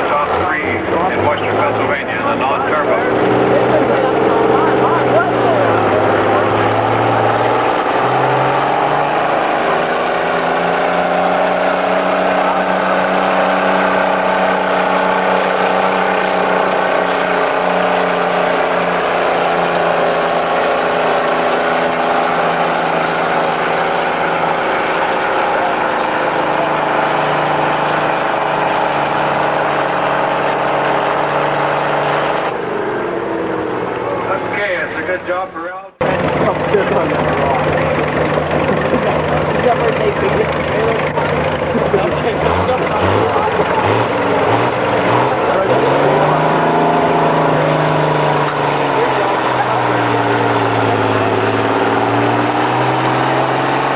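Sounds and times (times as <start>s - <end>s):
tractor engine at full throttle: 0.0s - 53.9s.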